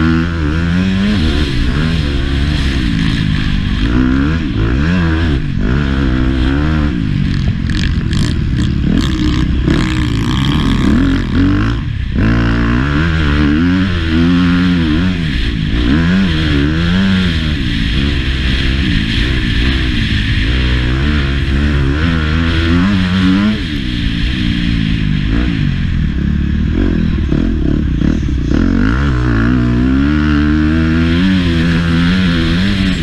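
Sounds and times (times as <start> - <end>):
motorbike engine revving: 0.0 - 33.0.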